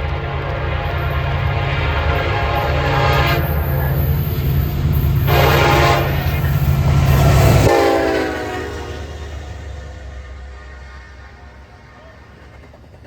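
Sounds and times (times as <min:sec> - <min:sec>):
train horn: 0:00.0 - 0:12.7
locomotive rumbling past: 0:00.0 - 0:13.0.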